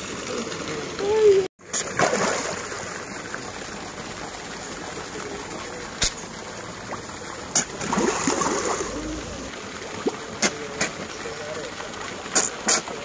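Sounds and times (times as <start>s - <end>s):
river flowing: 0.0s - 12.6s.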